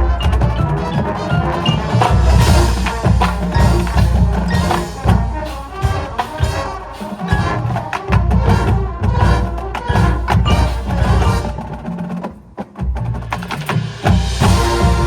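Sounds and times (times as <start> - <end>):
sharp percussion strokes: 0.0 - 12.2, 13.4 - 15.0
marching band playing: 0.0 - 15.0.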